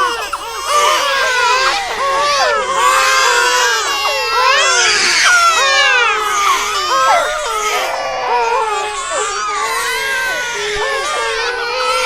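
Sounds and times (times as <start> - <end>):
babies crying: 0.0 - 12.0.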